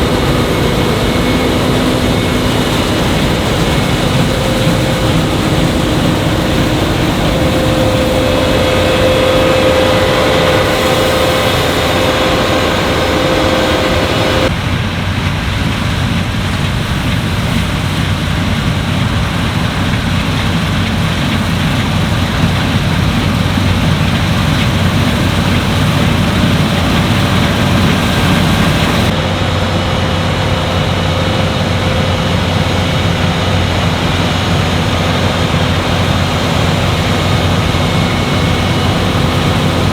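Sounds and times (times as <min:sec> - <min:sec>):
machinery whine: 0:00.0 - 0:15.5, 0:18.6 - 0:39.9
combine harvester drone: 0:00.0 - 0:39.9.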